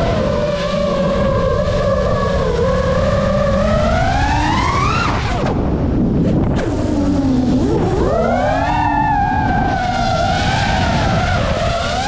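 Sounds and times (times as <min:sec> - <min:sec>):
quadcopter motors whining: 0:00.0 - 0:12.0
wind rush on camera: 0:00.0 - 0:12.0.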